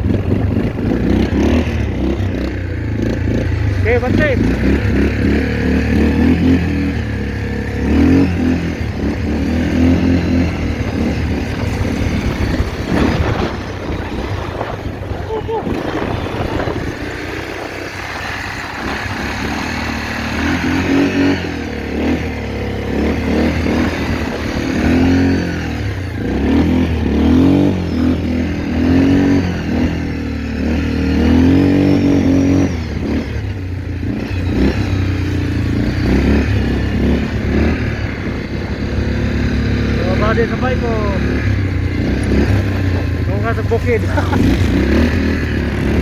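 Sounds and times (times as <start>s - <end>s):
quad bike engine revving: 0.0s - 46.0s.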